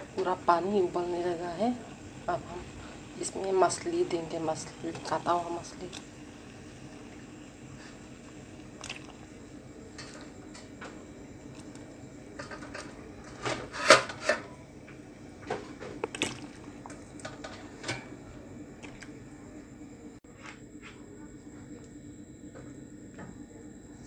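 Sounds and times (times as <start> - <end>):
broth boiling and bubbling: 0.0 - 20.2.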